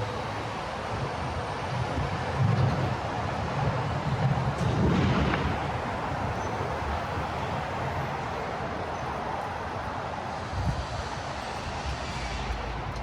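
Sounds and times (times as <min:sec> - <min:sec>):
passing vehicles: 0:00.0 - 0:13.0.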